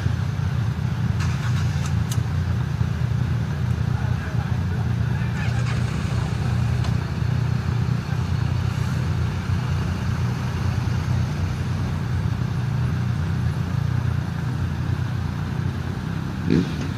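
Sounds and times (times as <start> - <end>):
low engine rumble: 0.0 - 16.9.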